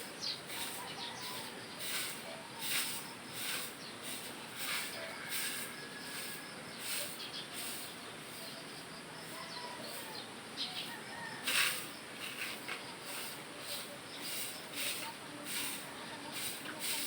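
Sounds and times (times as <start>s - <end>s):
rustling swishes of raking: 0.0s - 8.6s, 11.4s - 17.0s.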